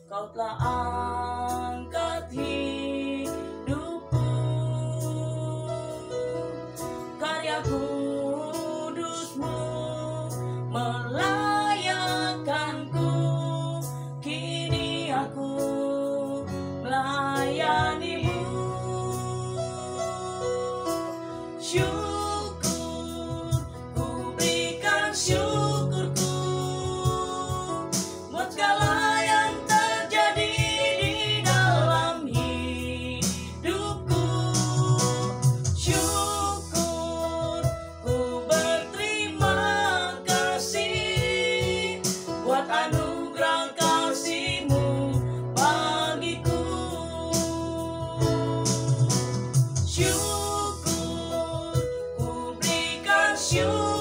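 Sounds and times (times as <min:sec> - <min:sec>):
woman singing worship song: 0:00.0 - 0:06.2, 0:07.1 - 0:49.3, 0:49.9 - 0:54.0
electronic keyboard accompaniment: 0:00.0 - 0:54.0.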